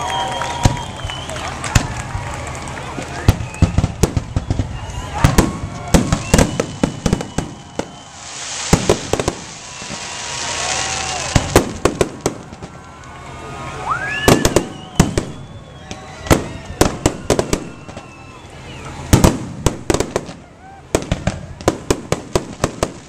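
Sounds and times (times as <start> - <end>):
fireworks bursting with sharp bangs: 0.5 - 13.2, 14.1 - 18.3, 19.0 - 23.0
fireworks hissing crackle: 0.6 - 20.4, 21.0 - 23.0.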